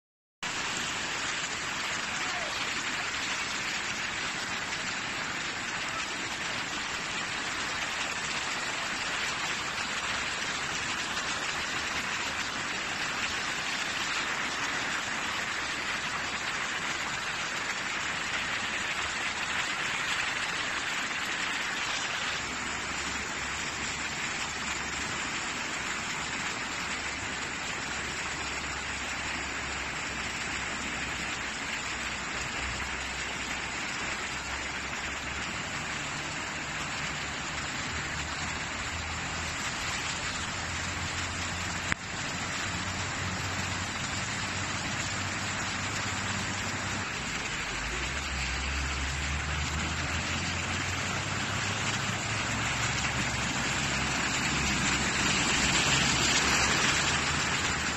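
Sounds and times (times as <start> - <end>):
heavy rain on flooded street: 0.4 - 57.9.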